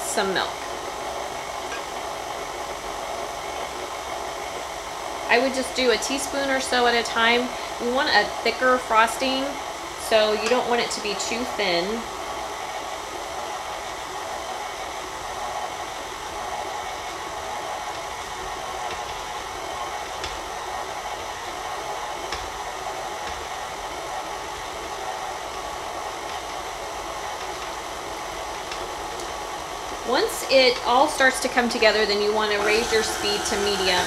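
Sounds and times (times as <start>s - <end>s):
stand mixer running: 0.0s - 34.0s.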